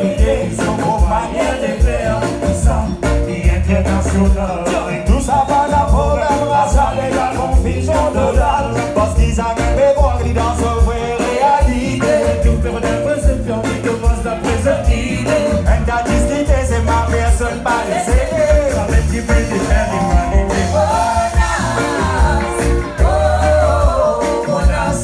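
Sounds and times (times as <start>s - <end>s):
live band with singers: 0.0s - 25.0s.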